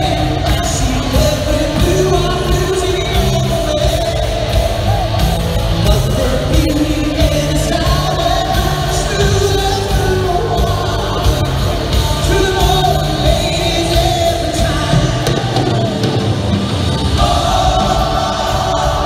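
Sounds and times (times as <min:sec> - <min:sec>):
lead singer singing: 0:00.0 - 0:19.0
live rock band playing: 0:00.0 - 0:19.0.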